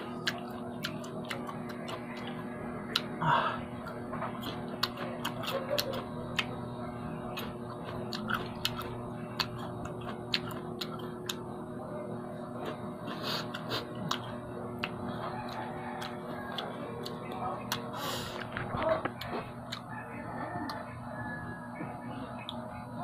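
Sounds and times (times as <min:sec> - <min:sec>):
man chewing with wet smacks: 0:00.0 - 0:11.5, 0:12.6 - 0:19.9
low electrical hum: 0:00.0 - 0:23.0.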